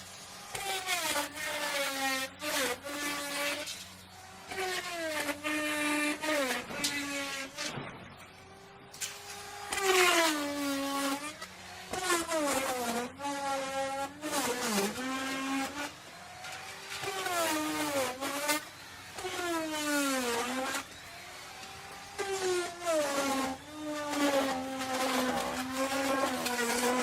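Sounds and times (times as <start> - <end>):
router bit cutting wood: 0.0 - 27.0
wood router motor whine: 0.0 - 27.0.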